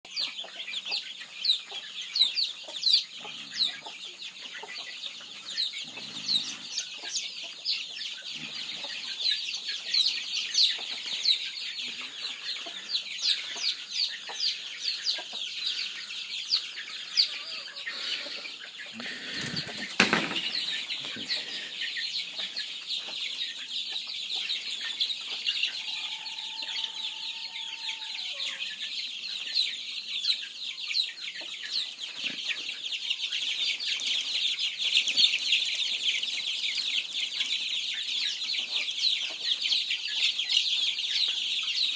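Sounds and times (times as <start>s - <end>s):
chickens peeping: 0.1s - 41.9s.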